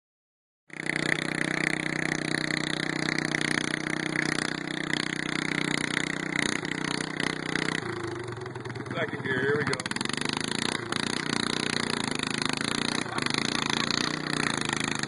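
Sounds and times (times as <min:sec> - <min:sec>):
lawn mower engine running: 0:00.7 - 0:15.0.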